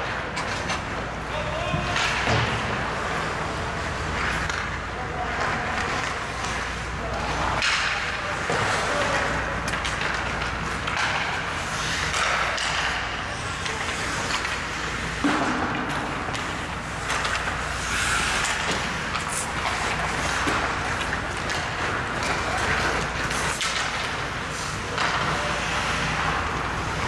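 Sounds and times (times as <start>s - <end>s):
skates scraping on ice: 0.0s - 27.0s
sticks clacking on puck: 4.1s - 27.0s.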